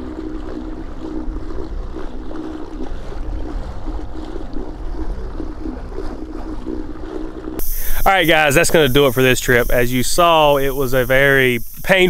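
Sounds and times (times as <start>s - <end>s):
outboard motor running: 0.0s - 12.0s
water noise: 0.0s - 12.0s
wind: 0.0s - 12.0s.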